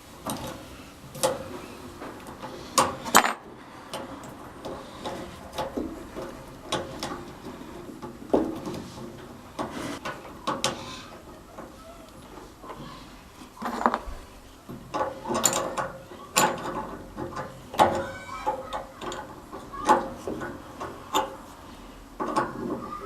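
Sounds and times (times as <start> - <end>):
metal tools clicking and clanking: 2.2 - 12.8, 13.6 - 21.5.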